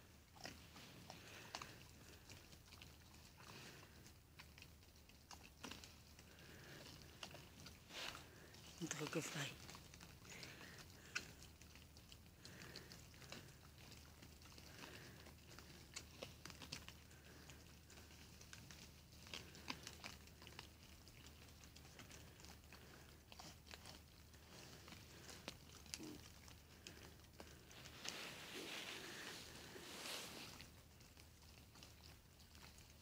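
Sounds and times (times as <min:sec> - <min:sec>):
boars chewing feed: 0:00.0 - 0:33.0.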